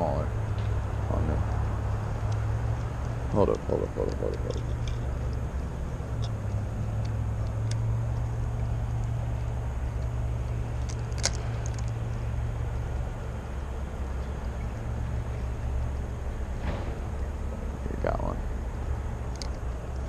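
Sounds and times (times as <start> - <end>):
distant machinery engine drone: 0.0 - 20.0.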